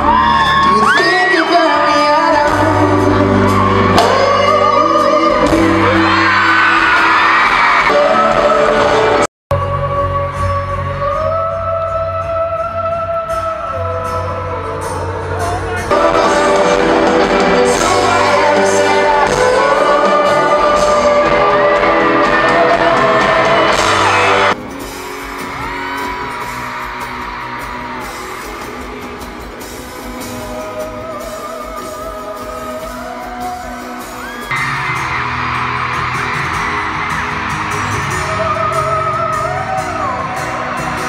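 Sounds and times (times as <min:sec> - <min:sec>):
audience whooping and screaming: 0:00.0 - 0:09.2, 0:15.9 - 0:41.0
acoustic guitar: 0:00.0 - 0:41.0.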